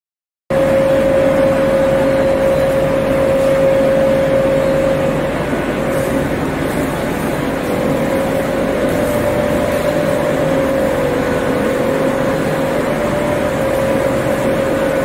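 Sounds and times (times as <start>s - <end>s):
industrial machinery noise: 0.5s - 15.0s
mid-pitched machine whine: 0.5s - 15.0s.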